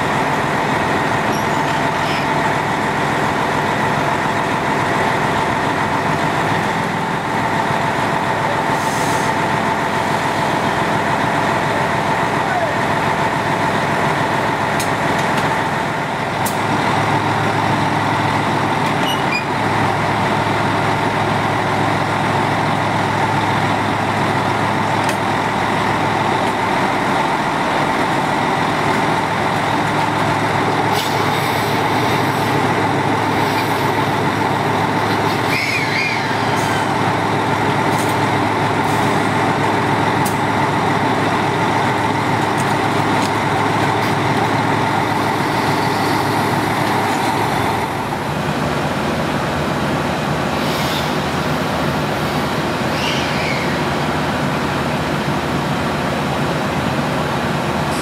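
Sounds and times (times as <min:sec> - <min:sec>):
diesel railcar engine idling: 0:00.0 - 0:58.0.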